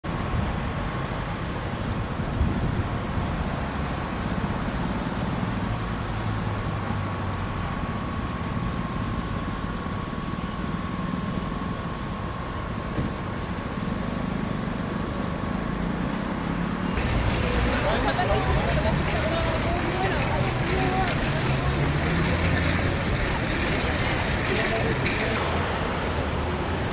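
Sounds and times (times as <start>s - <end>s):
car traffic noise: 0.0s - 26.9s.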